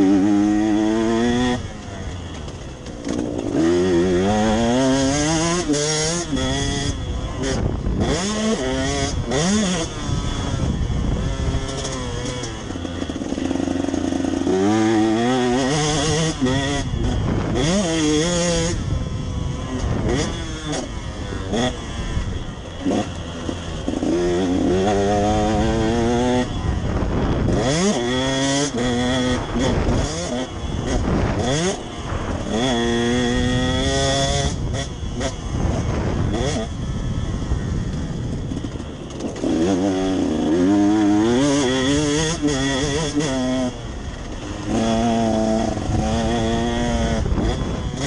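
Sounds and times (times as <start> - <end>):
motorbike engine revving: 0.0 - 48.0.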